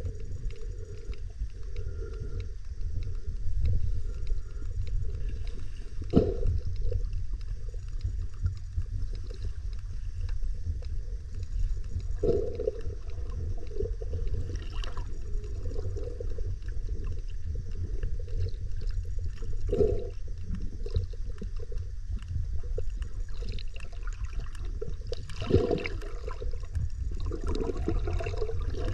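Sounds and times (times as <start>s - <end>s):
underwater rumble and gurgling: 0.0s - 28.9s.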